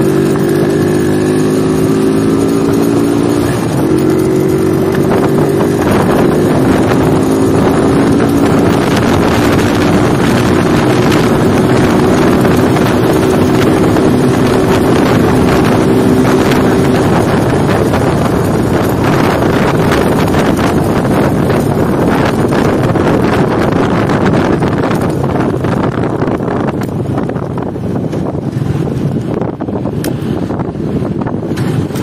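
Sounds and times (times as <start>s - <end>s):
motorcycle engine running: 0.0s - 32.0s
wind buffeting microphone: 0.0s - 32.0s.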